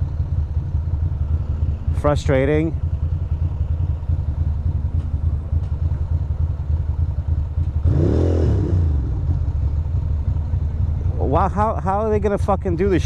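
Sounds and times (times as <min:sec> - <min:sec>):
louder engine sound: 0:00.0 - 0:13.0
motorcycle engine idling: 0:00.0 - 0:13.0.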